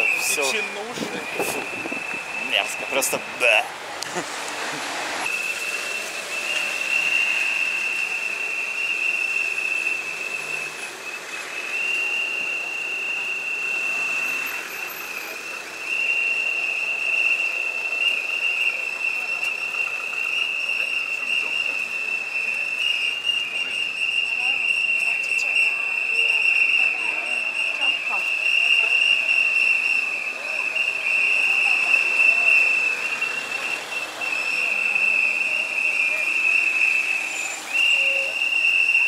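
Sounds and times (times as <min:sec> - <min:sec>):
many whistles blowing: 0:00.0 - 0:03.6, 0:05.2 - 0:39.0.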